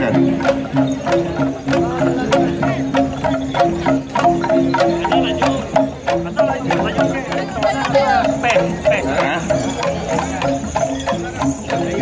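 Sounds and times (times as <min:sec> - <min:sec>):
crowd chatter: 0:00.0 - 0:12.0
traditional music melody: 0:00.0 - 0:12.0.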